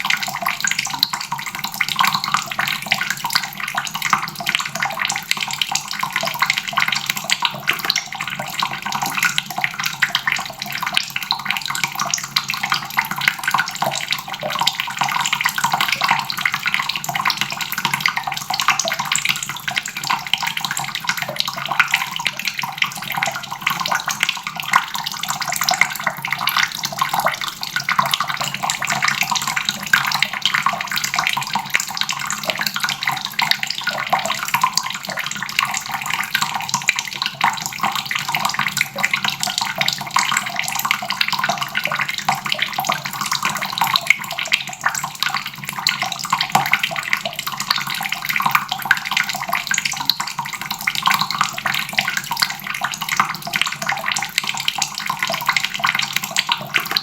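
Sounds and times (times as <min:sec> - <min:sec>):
tap water running into basin: 0:00.0 - 0:57.0.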